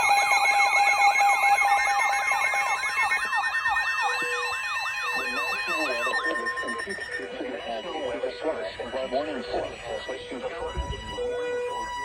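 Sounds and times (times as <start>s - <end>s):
fast falling siren sweep: 0.0s - 12.0s
steady beeping tones: 0.0s - 12.0s.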